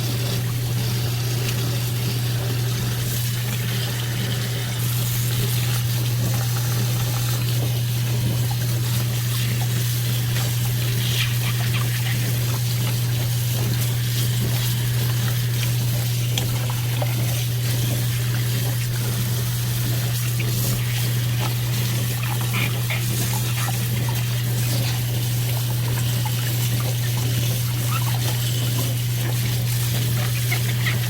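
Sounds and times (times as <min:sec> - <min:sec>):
constant low hum: 0:00.0 - 0:31.0
water running from tap: 0:00.0 - 0:31.0.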